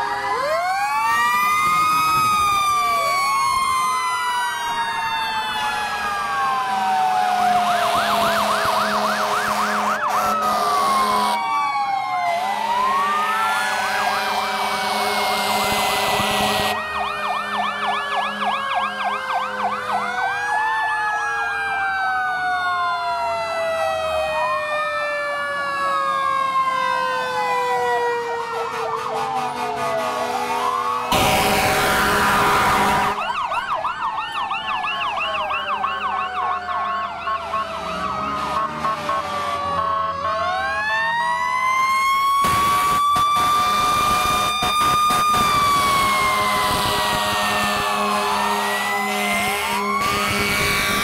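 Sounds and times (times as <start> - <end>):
fire truck sirens wailing: 0.0 - 51.0.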